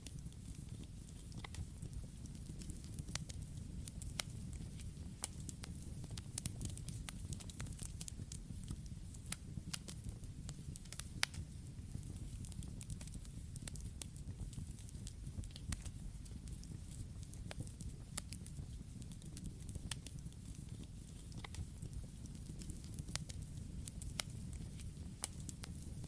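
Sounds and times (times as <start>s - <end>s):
burning wood crackling and popping: 0.0s - 26.0s.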